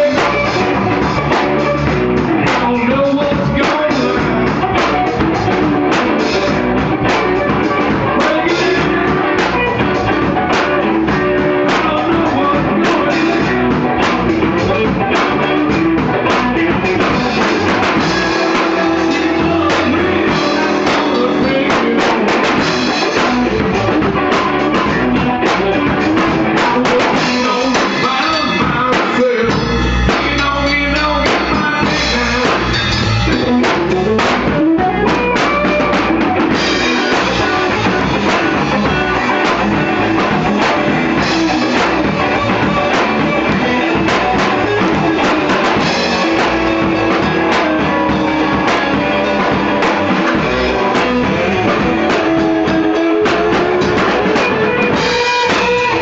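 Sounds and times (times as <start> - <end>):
amplified electric guitar: 0.0 - 56.0
drum kit with cymbals: 0.0 - 56.0.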